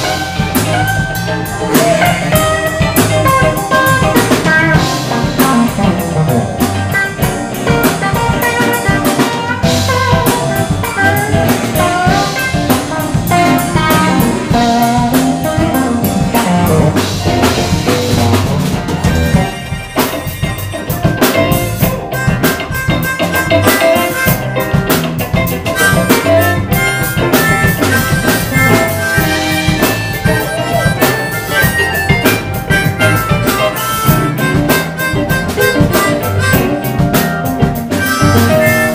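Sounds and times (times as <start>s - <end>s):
drum kit: 0.0s - 38.9s
electric guitars: 0.0s - 38.9s
harmonica: 0.0s - 38.9s.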